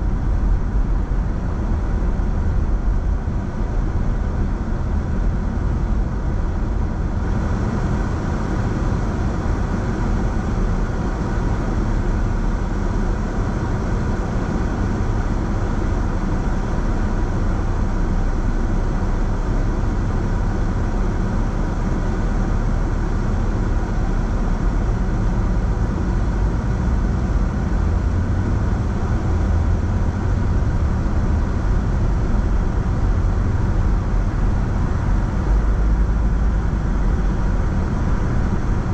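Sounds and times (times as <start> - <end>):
car road noise: 0.0 - 38.9.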